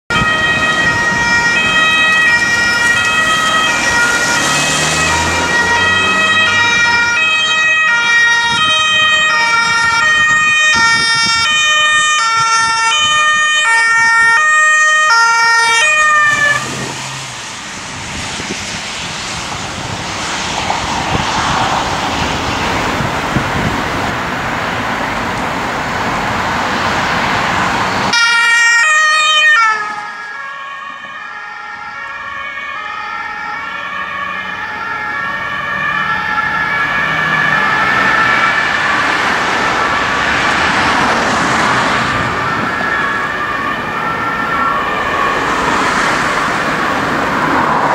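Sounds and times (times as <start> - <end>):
two-tone emergency siren: 0.1 - 23.7, 26.7 - 47.9
passing road traffic: 0.1 - 47.9.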